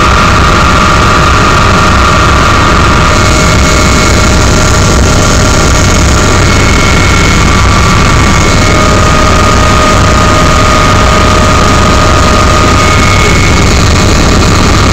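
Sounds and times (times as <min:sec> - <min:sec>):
helicopter turbine and rotor: 0:00.0 - 0:14.9.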